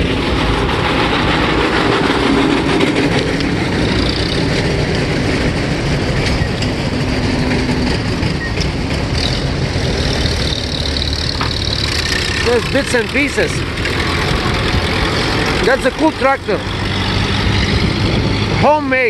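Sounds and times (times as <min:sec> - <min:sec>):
tractor engines running: 0:00.0 - 0:19.0.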